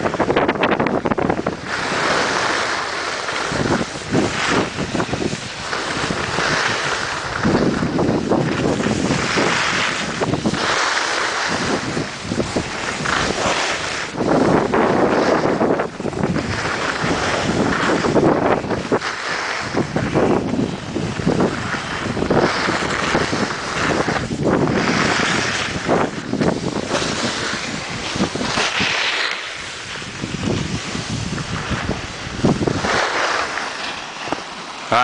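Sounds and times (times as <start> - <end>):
skis scraping over packed snow: 0.0 - 35.0
wind rushing over microphone: 0.0 - 35.0.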